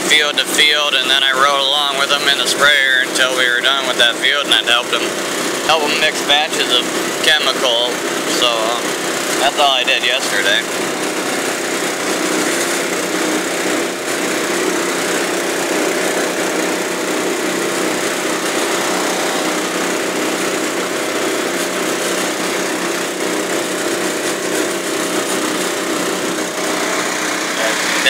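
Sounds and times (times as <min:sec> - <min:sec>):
engines humming: 0:00.0 - 0:28.0.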